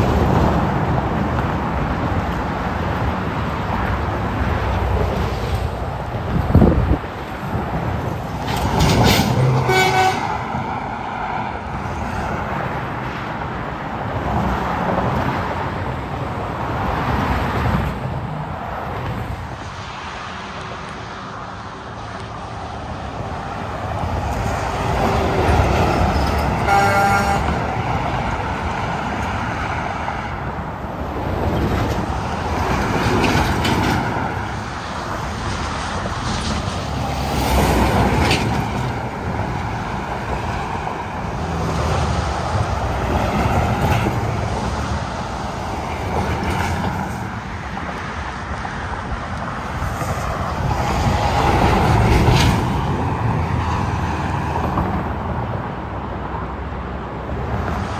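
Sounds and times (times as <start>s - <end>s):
highway traffic passing: 0.0s - 57.9s.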